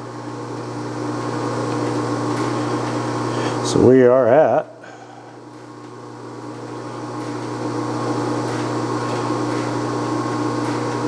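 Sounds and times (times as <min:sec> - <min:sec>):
mechanical hum with low drone: 0:00.0 - 0:11.0.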